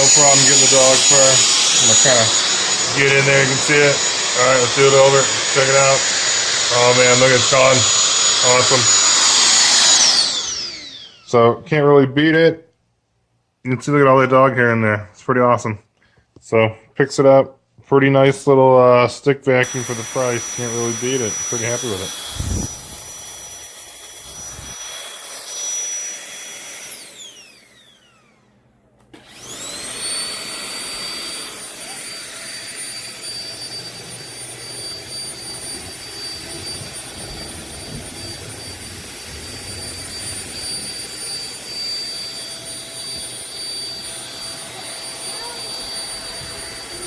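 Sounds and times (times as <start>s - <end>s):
vacuum motor whining: 0.0s - 11.4s, 19.6s - 47.0s.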